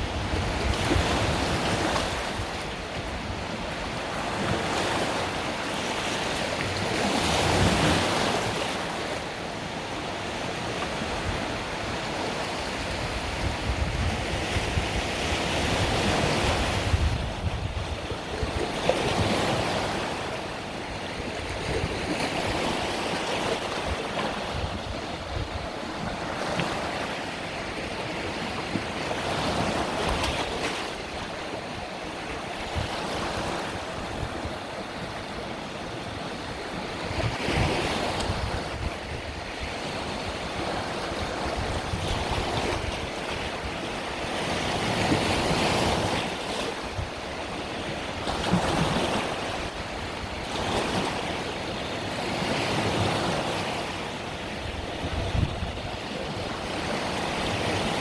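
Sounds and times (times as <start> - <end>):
wind rumbling on microphone: 0.0 - 5.4, 10.9 - 35.2, 36.4 - 51.4, 52.6 - 58.0
sea waves breaking on beach: 0.0 - 58.0.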